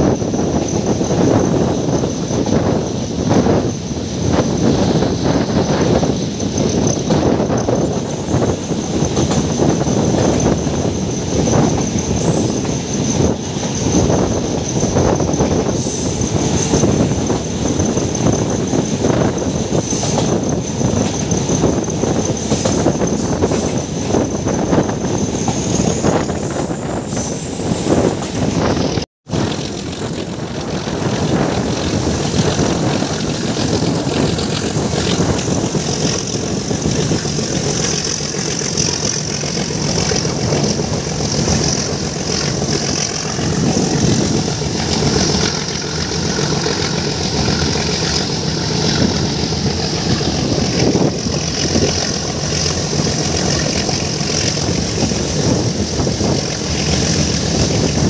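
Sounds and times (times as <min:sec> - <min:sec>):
rushing air: 0:00.0 - 0:58.0
train wheels on rails: 0:00.0 - 0:58.0.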